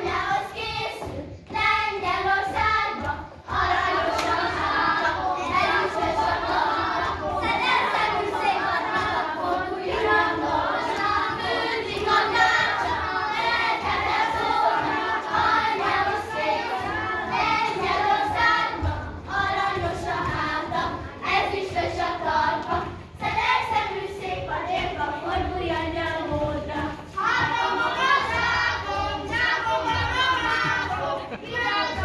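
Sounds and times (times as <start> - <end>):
children singing in chorus: 0.0 - 32.0.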